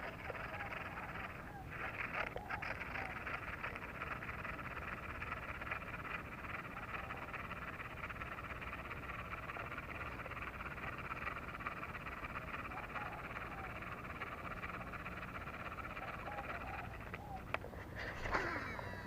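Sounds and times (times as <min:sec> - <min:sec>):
chorus of frogs calling: 0:00.0 - 0:19.0.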